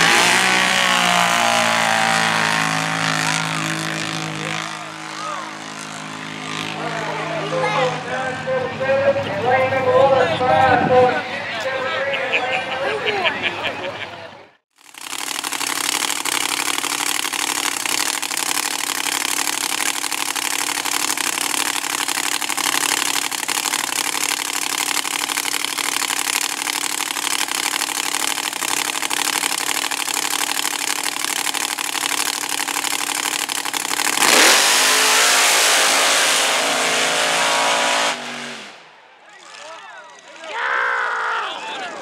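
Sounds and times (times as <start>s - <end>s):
trucks launching at full throttle: 0.0s - 11.2s, 14.8s - 40.5s
truck engines idling: 0.0s - 40.4s.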